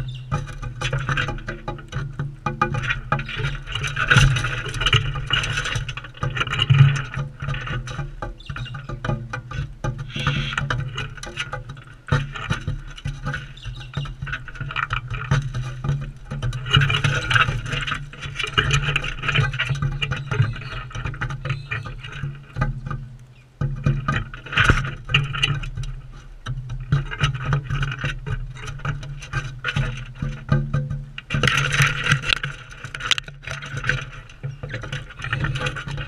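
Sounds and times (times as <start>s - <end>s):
birds beaks clicking and tapping: 0.0s - 36.0s.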